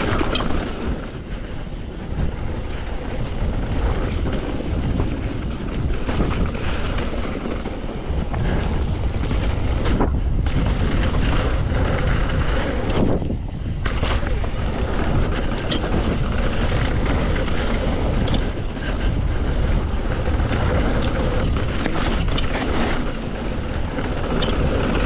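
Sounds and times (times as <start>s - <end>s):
mountain bike rolling on dirt: 0.0s - 25.0s
wind on microphone: 0.0s - 25.0s.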